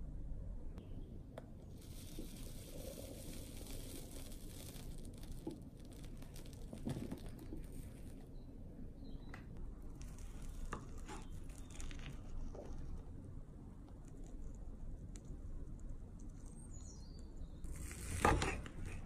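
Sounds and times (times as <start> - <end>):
low background rumble: 0.0 - 19.0
soft squishes: 1.6 - 8.5, 9.4 - 19.0.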